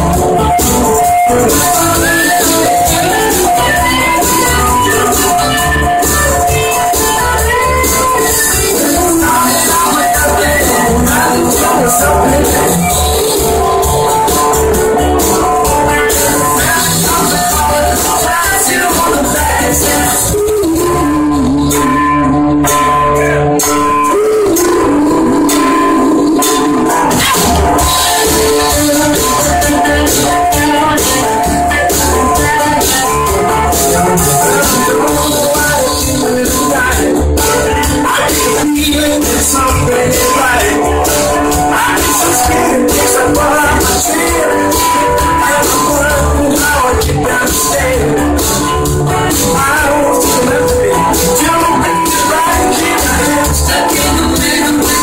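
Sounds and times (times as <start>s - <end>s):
hand percussion: 0.0s - 21.1s, 23.6s - 55.0s
bass guitar: 0.0s - 55.0s
rock band playing: 0.0s - 55.0s.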